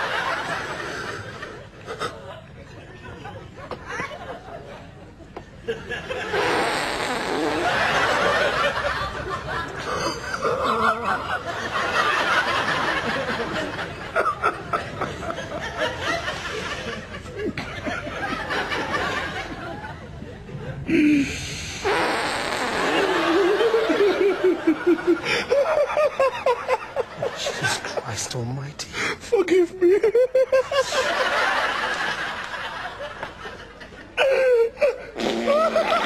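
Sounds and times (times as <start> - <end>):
people laughing and snickering: 0.0 - 28.1, 29.3 - 36.0.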